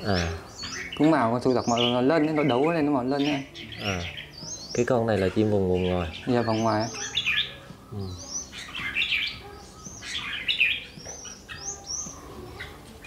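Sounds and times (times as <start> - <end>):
birds singing whistled phrases: 0.0 - 13.0.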